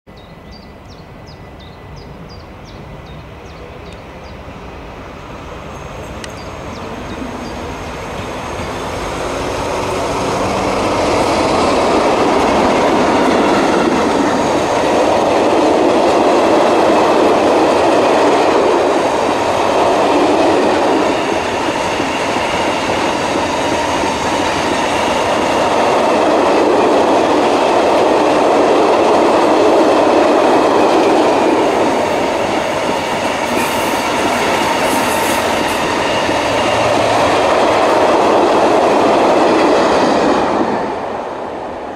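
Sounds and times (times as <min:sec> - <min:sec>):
freight train rumbling past: 0:00.1 - 0:41.9.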